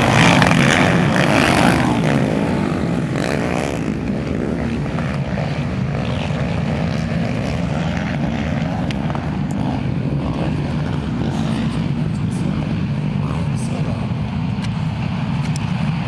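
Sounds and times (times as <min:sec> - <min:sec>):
racing quad engines droning: 0:00.0 - 0:16.0.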